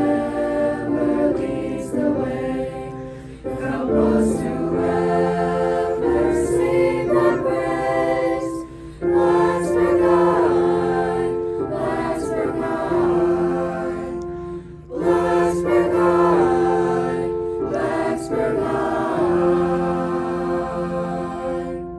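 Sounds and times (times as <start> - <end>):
choir singing in harmony: 0.0 - 21.9.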